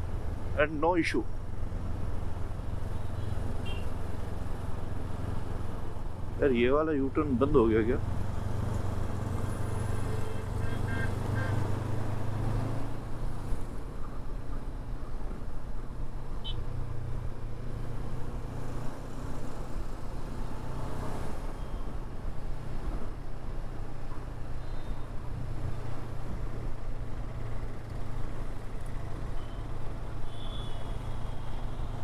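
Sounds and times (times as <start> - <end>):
road and traffic noise: 0.0 - 32.0.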